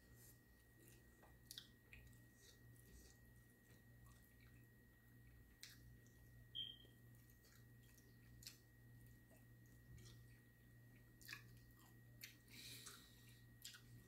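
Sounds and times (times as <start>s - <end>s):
low steady hum: 0.0s - 14.0s
chewing and mouth smacks: 0.6s - 6.4s, 7.1s - 14.0s.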